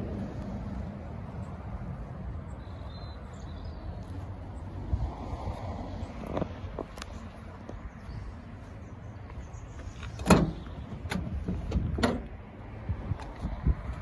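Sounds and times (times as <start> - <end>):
wind rumble: 0.0 - 14.0.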